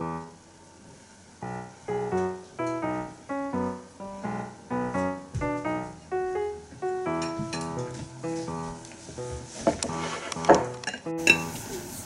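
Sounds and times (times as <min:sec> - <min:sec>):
light keyboard melody: 0:01.4 - 0:12.0.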